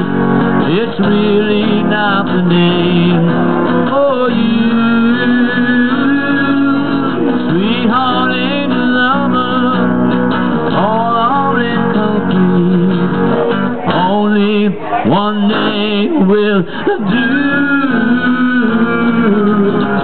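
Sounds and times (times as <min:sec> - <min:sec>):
electric guitar lead with bends: 0:00.0 - 0:20.0
strummed acoustic guitar: 0:00.0 - 0:20.0.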